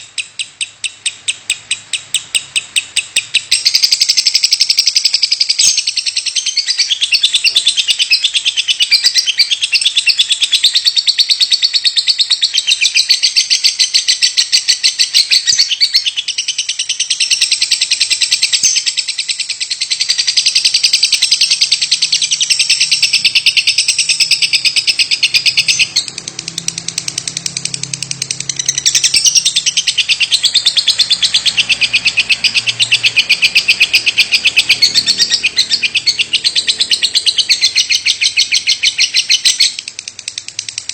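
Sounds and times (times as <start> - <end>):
lovebird chattering trill: 0.0 - 40.9.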